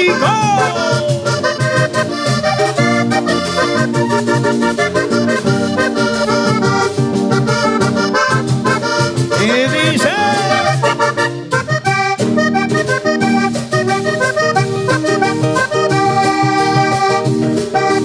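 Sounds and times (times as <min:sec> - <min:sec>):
bass line: 0:00.0 - 0:18.0
button accordion melody: 0:00.0 - 0:18.0
guitars: 0:00.0 - 0:18.0
steady percussion beat: 0:00.0 - 0:18.0.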